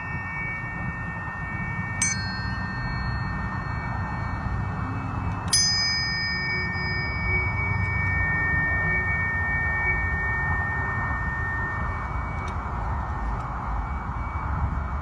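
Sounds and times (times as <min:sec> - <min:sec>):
tuning fork ringing: 0:00.0 - 0:15.0
tuning fork struck: 0:00.0 - 0:15.0.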